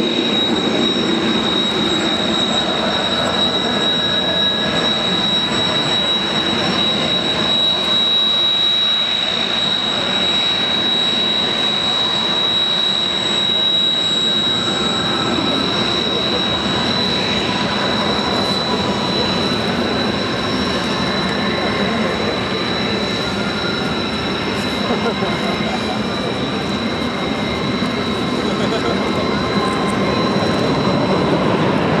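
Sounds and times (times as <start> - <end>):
jet engines whining: 0.0 - 32.0.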